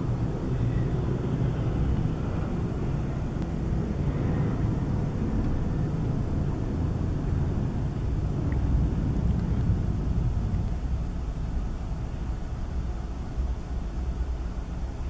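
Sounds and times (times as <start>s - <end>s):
distant outdoor rumble: 0.0s - 13.0s.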